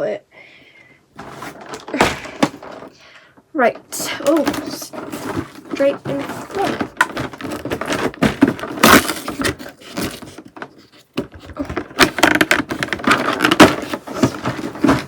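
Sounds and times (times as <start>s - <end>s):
packaging rustling and crinkling: 1.2s - 3.0s, 4.0s - 15.0s.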